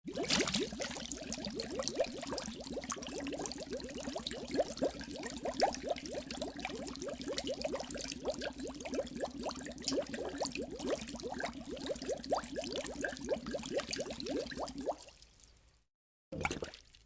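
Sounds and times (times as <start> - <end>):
water bubbling: 0.0 - 15.0, 16.4 - 17.0.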